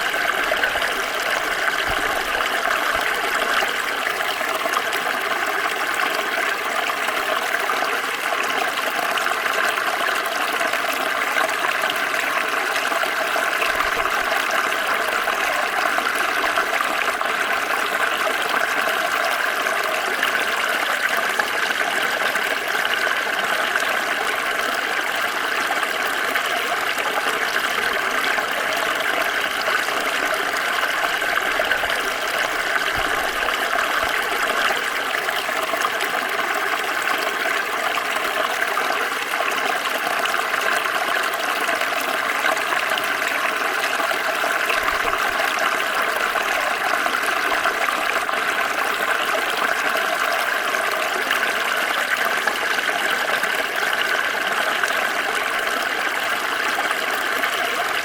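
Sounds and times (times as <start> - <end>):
water flowing in a stream: 0.0 - 58.0.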